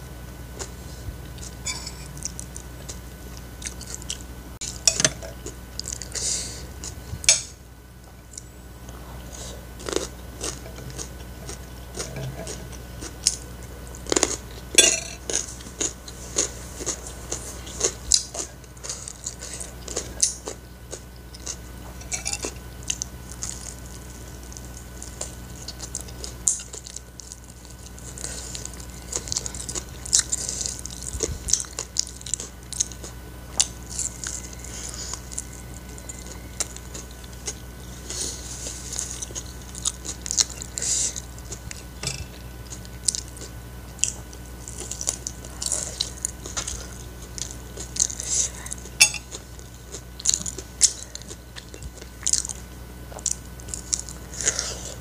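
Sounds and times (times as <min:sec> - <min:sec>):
person chewing food: 0:00.6 - 0:07.5, 0:08.2 - 0:55.0.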